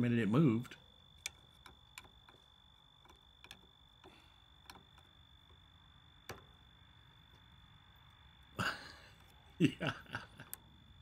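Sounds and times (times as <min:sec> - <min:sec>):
faint steady high whine: 0:00.0 - 0:11.0.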